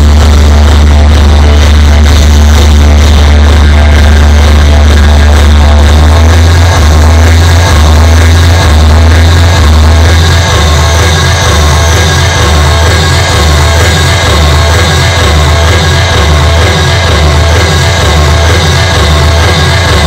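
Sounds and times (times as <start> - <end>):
heavy bass line: 0.0 - 20.0
loud electronic dance music: 0.0 - 20.0.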